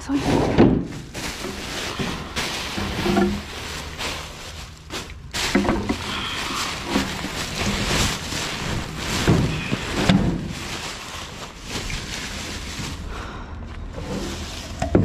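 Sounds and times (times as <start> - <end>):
plastic bags rustling and crinkling: 0.0 - 15.0.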